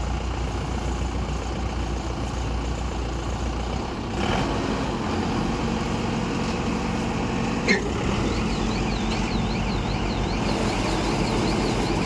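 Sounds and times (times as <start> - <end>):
harvester engine running: 0.0 - 12.0.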